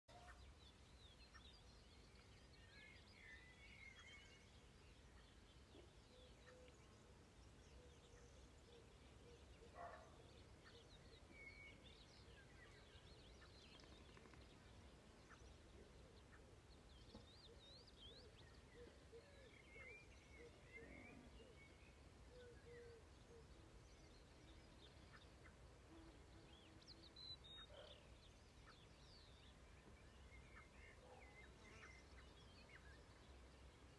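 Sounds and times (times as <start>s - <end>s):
songbirds chirping and trilling: 0.1s - 33.9s.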